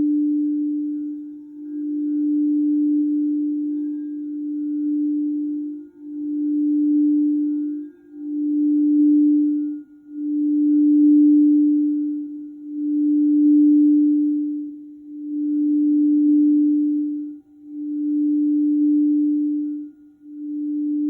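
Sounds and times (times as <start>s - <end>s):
singing bowl low tone: 0.0s - 21.0s.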